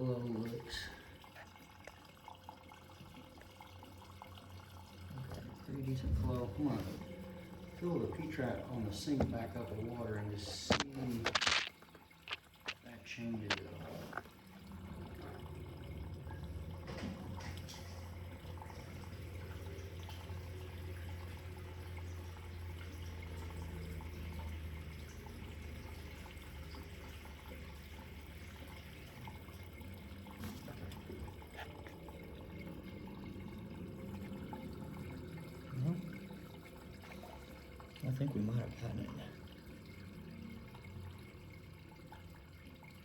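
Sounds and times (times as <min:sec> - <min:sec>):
water running into sink drain: 0:00.0 - 0:43.0.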